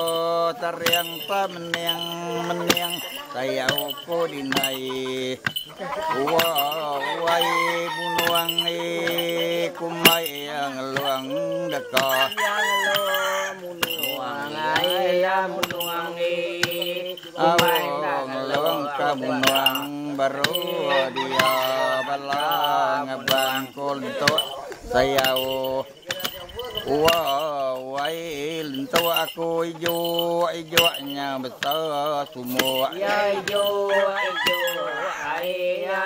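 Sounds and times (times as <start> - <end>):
group chanting: 0.0 - 30.4, 32.4 - 36.0
short clinks or knocks: 0.0 - 35.9.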